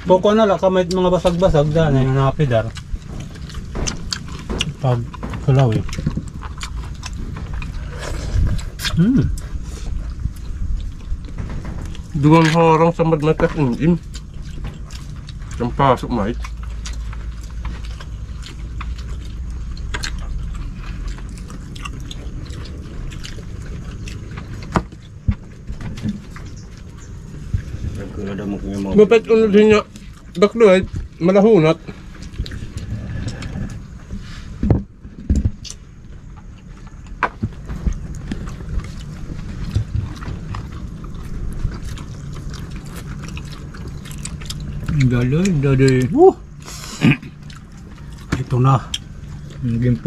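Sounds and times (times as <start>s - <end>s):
low rumble: 0.0s - 50.0s
steady low hum: 0.0s - 50.0s.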